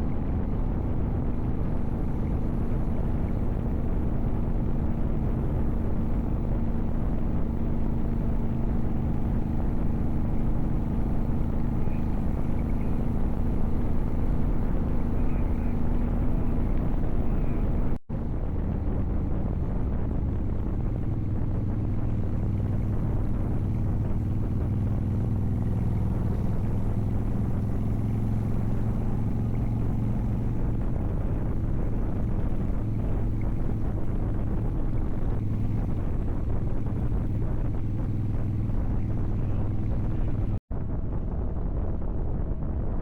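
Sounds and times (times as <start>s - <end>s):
motorcycle engine running: 0.0s - 42.0s
wind rushing over microphone: 0.0s - 43.0s.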